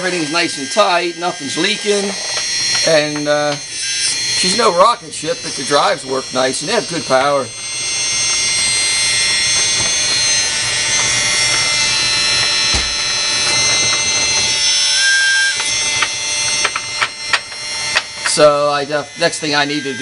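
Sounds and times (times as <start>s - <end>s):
hydraulic pump whining: 0.0s - 20.0s.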